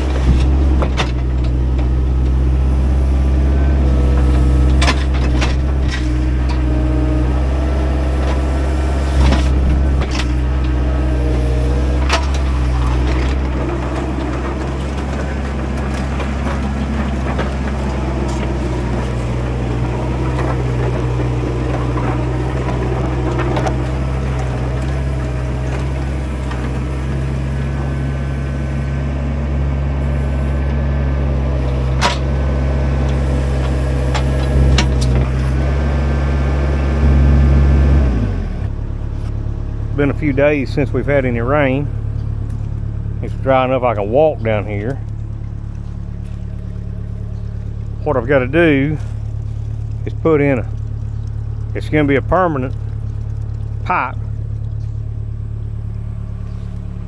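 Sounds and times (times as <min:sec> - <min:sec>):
excavator diesel engine running: 0:00.0 - 0:57.0
hydraulic whine: 0:00.0 - 0:57.0.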